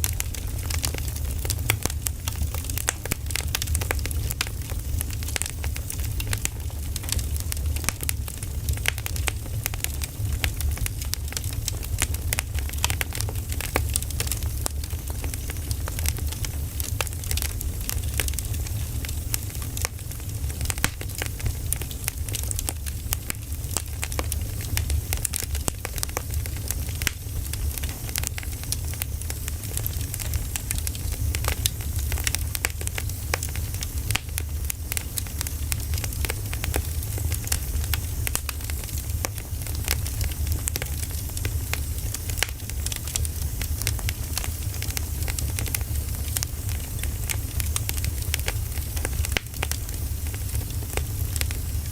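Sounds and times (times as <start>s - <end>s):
firewood crackling and popping: 0.0s - 51.9s
low rumble of fire: 0.0s - 51.9s.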